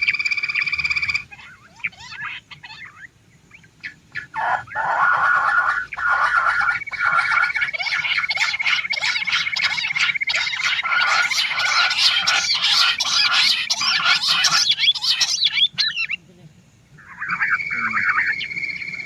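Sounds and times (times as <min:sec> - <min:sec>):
quail calling: 0:00.0 - 0:19.0.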